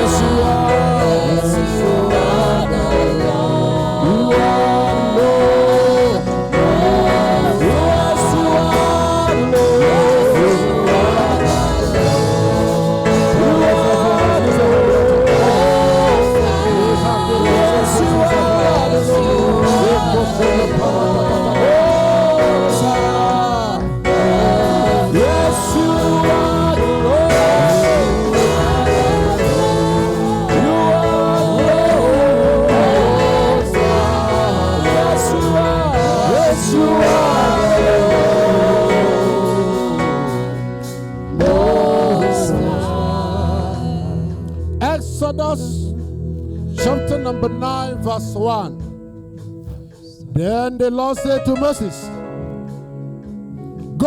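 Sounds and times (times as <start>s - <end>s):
choir singing: 0.0s - 46.0s
instrumental accompaniment: 0.0s - 54.0s.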